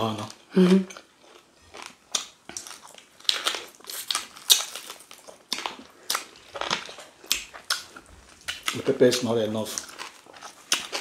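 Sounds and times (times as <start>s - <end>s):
people chewing and lip-smacking: 0.1s - 11.0s.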